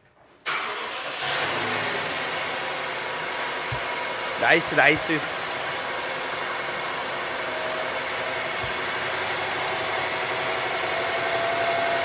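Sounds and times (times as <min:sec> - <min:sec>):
car engine idling: 0:00.6 - 0:12.0.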